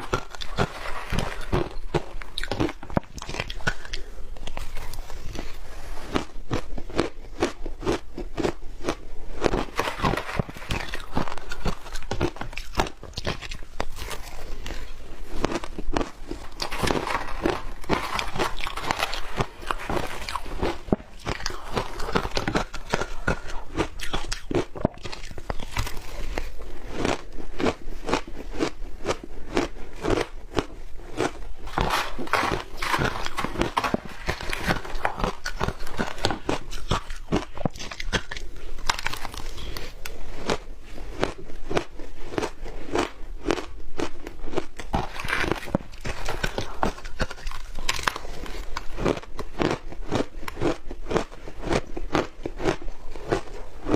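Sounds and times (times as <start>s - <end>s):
chewing crunchy shaved ice: 0.0s - 53.9s.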